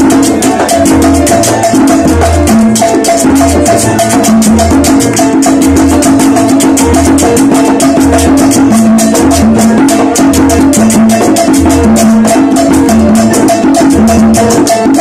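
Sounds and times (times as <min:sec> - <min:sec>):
congas: 0:00.0 - 0:15.0
live salsa band playing: 0:00.0 - 0:15.0
shaken or scraped percussion: 0:00.0 - 0:15.0.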